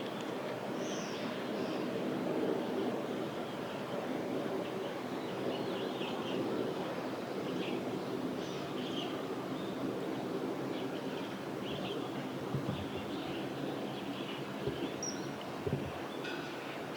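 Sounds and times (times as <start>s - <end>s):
low outdoor background noise: 0.0s - 16.9s.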